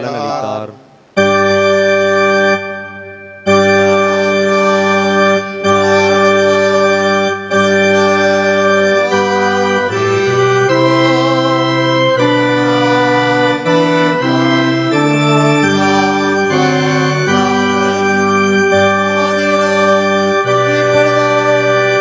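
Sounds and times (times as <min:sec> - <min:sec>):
organ playing held chords: 0:00.0 - 0:22.0.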